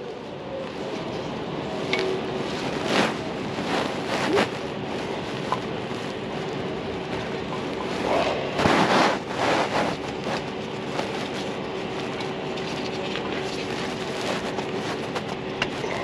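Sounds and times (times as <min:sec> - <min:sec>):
steady background hum: 0:00.0 - 0:16.0
hands scraping rubber belt: 0:01.8 - 0:16.0.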